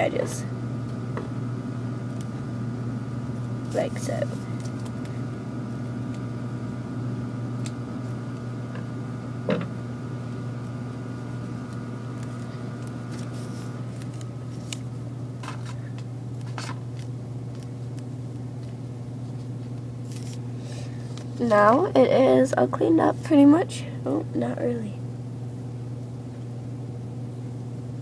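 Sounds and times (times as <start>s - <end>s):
low electrical motor hum: 0.0s - 28.0s.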